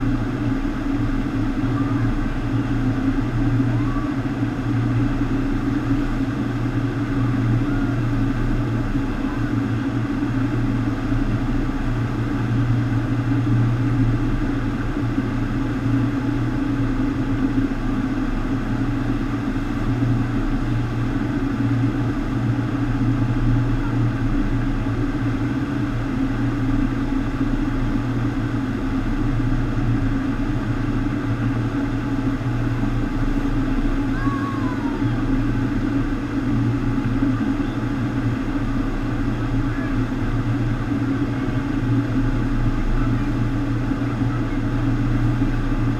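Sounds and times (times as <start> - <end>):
low pump hum: 0.0 - 45.9.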